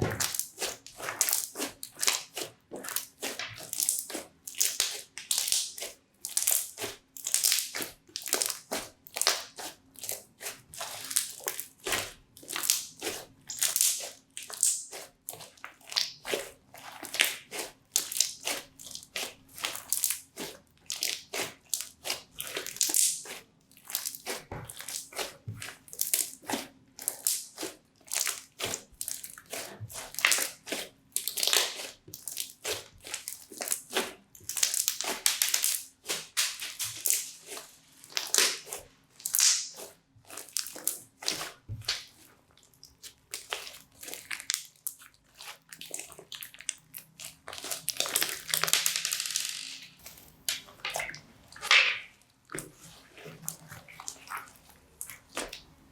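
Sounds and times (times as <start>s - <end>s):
crunchy slime crackling: 0.0s - 49.0s.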